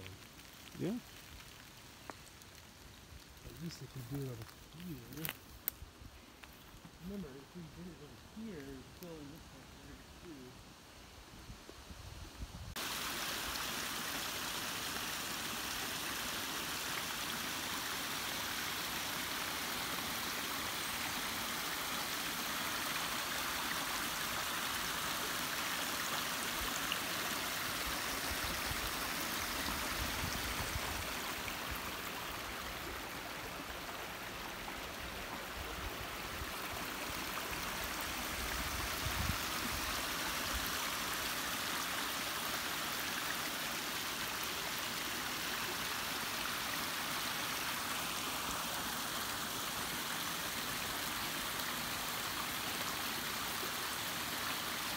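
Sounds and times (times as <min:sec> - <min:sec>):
creek water rushing over logs: 0:00.0 - 0:10.3, 0:12.8 - 0:54.9.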